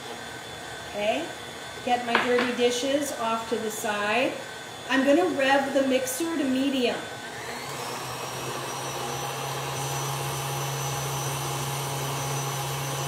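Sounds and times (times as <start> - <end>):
stand mixer motor hum: 0.0 - 1.8, 4.3 - 13.0.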